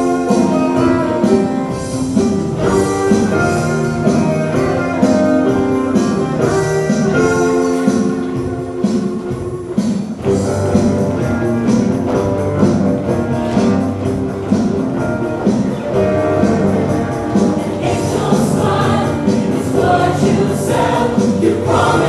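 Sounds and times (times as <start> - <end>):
band playing upbeat music: 0.0 - 22.0.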